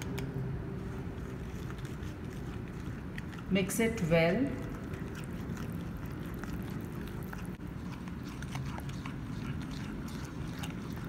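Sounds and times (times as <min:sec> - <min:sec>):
whisk stirring batter: 0:00.8 - 0:11.0.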